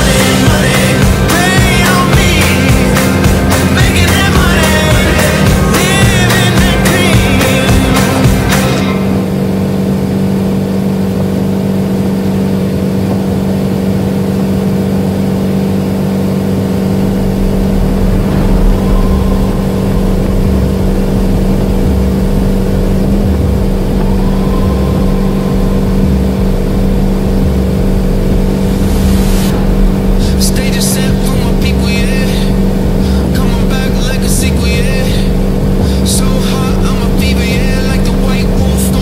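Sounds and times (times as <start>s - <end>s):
boat engine droning: 0.0s - 39.0s.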